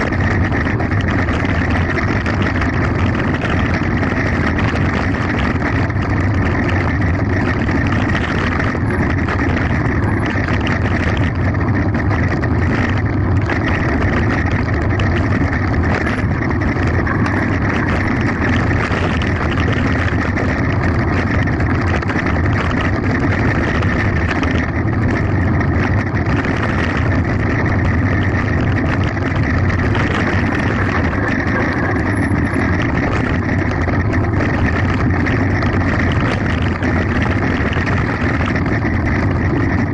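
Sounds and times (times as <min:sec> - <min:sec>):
bike rattling: 0:00.0 - 0:39.9
tyres rumbling on gravel: 0:00.0 - 0:39.9
wind rushing on microphone: 0:00.0 - 0:39.9.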